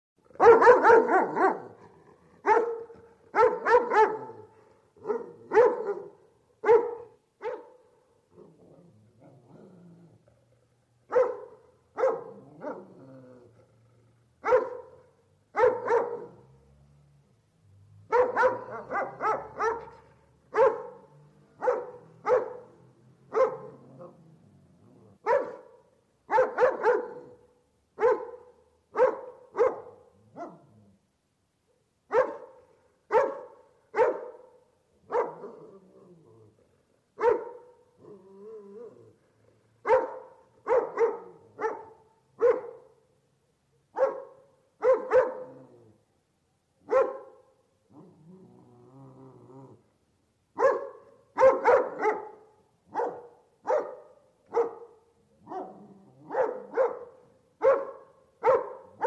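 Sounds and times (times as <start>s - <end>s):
large dog barking: 0.2s - 10.2s, 11.0s - 16.8s, 18.0s - 30.9s, 32.1s - 43.2s, 43.9s - 45.9s, 46.8s - 48.2s, 50.6s - 59.0s.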